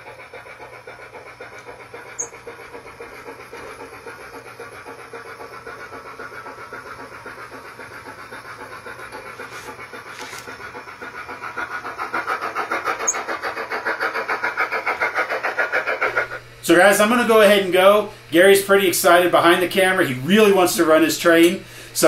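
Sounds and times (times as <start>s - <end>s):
steam locomotive chuffs from speaker: 0.0s - 22.0s.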